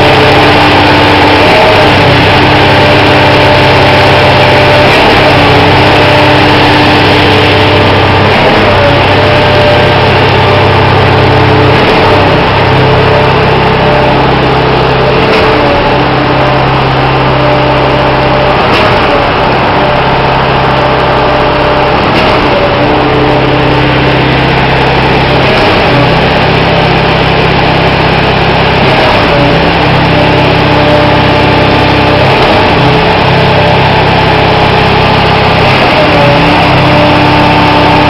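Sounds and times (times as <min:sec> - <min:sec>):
concrete pump engine running: 0:00.0 - 0:38.0.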